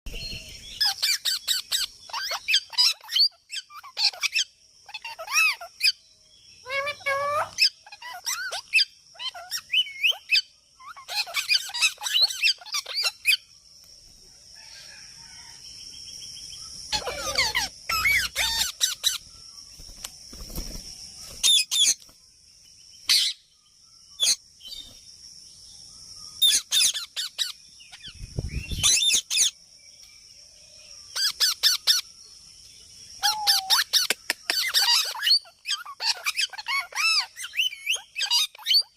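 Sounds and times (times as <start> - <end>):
birds chirping: 0.1 - 38.9.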